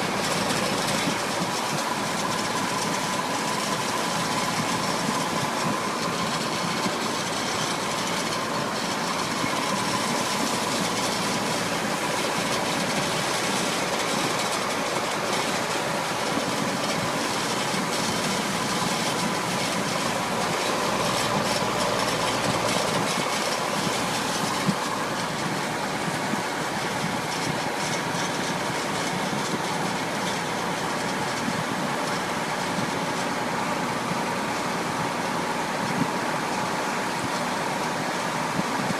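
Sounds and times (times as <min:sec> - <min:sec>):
faint steady whine: 0:00.0 - 0:38.9
truck engine and road noise: 0:00.0 - 0:38.9.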